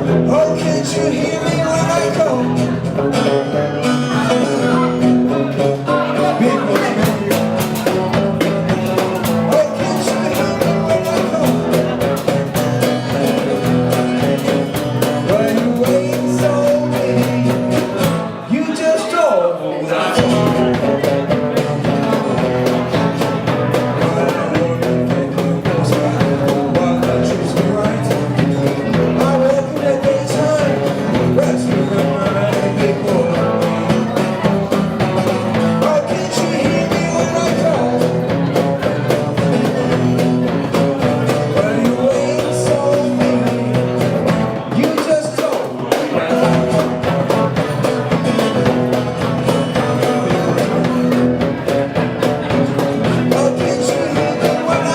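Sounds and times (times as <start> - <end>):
rock band playing: 0.0 - 19.3, 19.9 - 54.9
person singing: 0.0 - 54.9.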